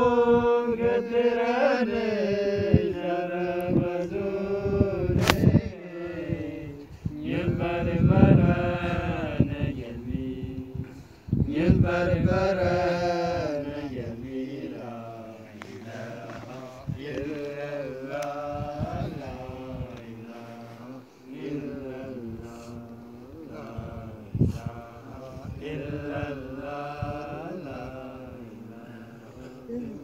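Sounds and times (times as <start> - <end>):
man singing unaccompanied: 0.0 - 10.8, 11.5 - 30.0.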